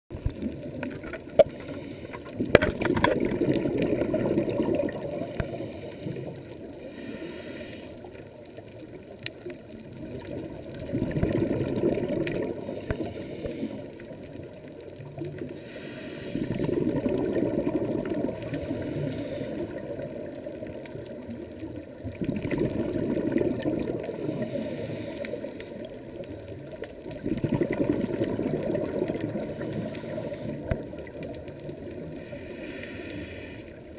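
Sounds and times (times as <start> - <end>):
underwater bubbles gurgling: 0.1 - 33.9.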